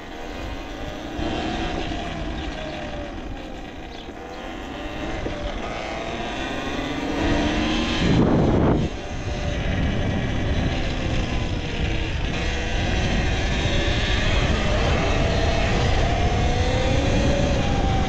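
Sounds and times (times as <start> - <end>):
electric dirt bike motor whine: 0.0 - 18.0
wind noise on microphone: 0.0 - 18.0.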